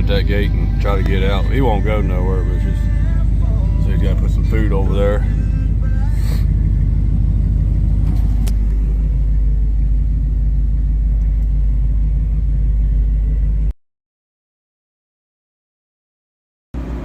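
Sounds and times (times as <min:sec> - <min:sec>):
loud low rumble: 0:00.0 - 0:13.8.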